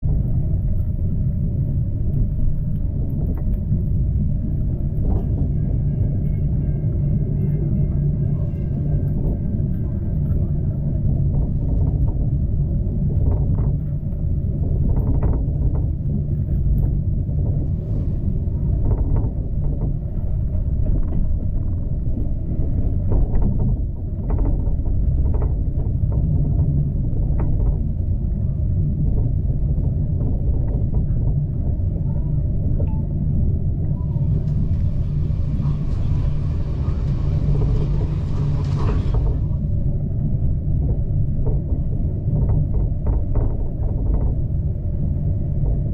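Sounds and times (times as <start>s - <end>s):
train carriage rumbling on track: 0.0s - 45.9s.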